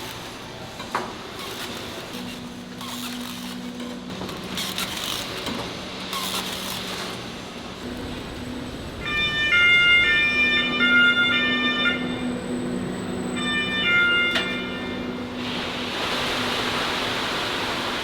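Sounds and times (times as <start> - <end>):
factory machinery humming: 0.0 - 18.0.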